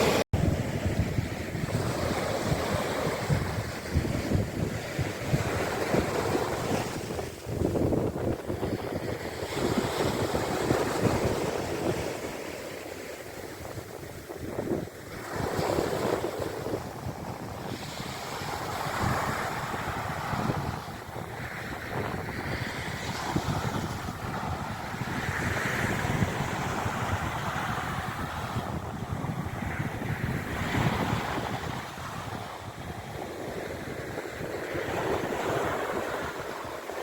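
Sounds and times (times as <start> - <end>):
waves washing onto shore: 0.0 - 37.0
wind buffeting microphone: 0.0 - 37.0.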